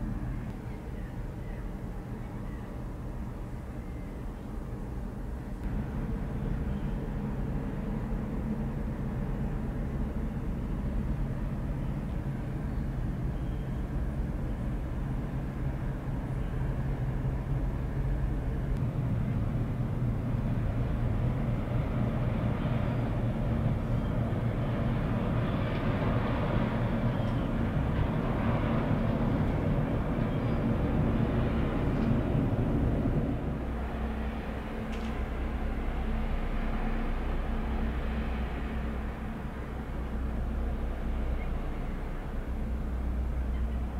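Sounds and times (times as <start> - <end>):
ship engines droning: 0.0 - 43.9.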